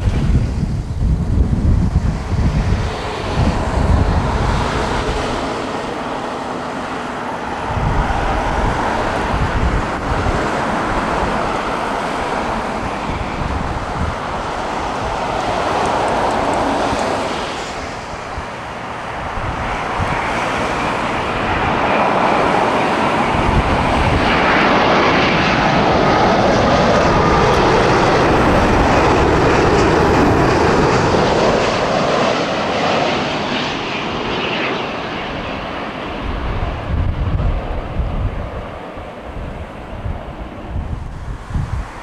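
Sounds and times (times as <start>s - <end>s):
jet airliner flying past: 0.0s - 42.0s
wind buffeting microphone: 0.0s - 42.0s.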